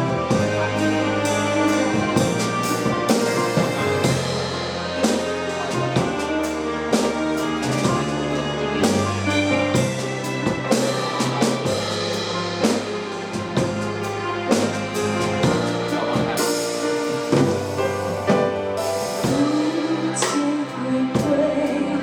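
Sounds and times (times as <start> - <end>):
drum kit beat: 0.0 - 21.8
held bass and chord notes: 0.0 - 22.0.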